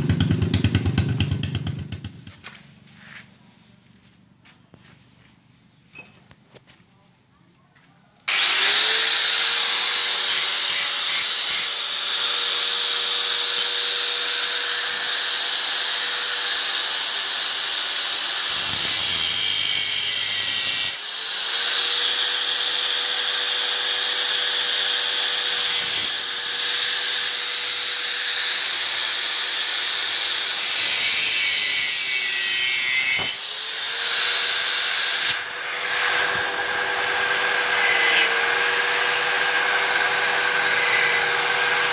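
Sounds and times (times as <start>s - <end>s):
angle grinder cutting metal pipe: 8.3s - 41.9s.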